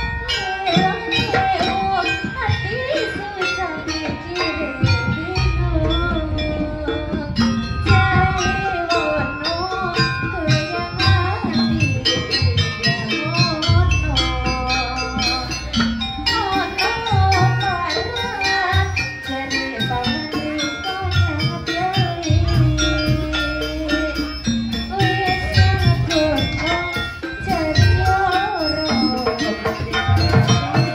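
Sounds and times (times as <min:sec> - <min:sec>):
fast metallic percussion: 0:00.0 - 0:30.9
wavering melody: 0:00.0 - 0:30.9.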